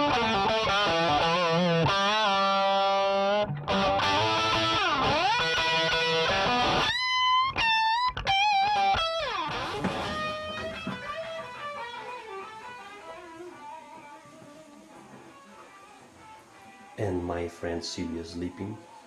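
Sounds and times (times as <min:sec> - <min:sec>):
electric guitar lead solo: 0:00.0 - 0:17.0.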